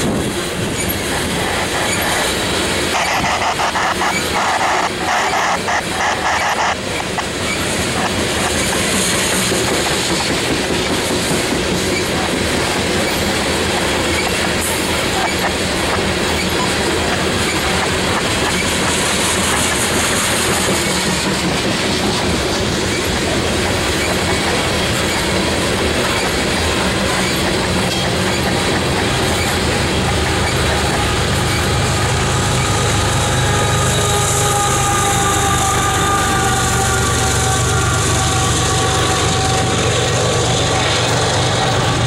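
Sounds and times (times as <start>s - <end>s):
freight train wheels rumbling on rail: 0.0s - 42.0s.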